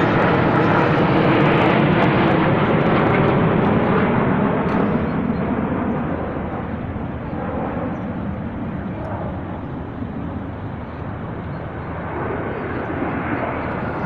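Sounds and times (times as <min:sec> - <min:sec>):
jet aircraft flying over: 0:00.0 - 0:14.0.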